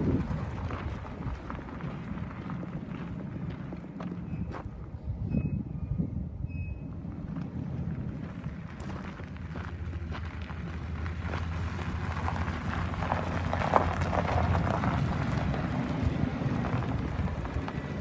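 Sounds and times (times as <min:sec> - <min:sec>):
footsteps crunching on gravel: 0:00.0 - 0:04.8, 0:07.3 - 0:18.0.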